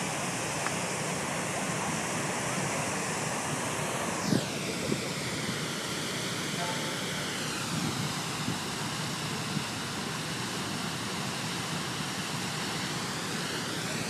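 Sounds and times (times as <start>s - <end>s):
fountain water splashing: 0.0s - 14.0s.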